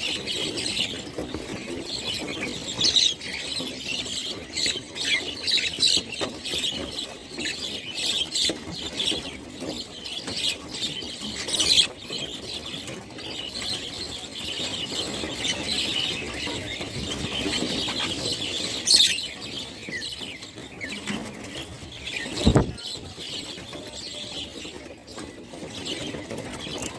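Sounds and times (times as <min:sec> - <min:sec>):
flock of birds chirping: 0:00.0 - 0:26.9.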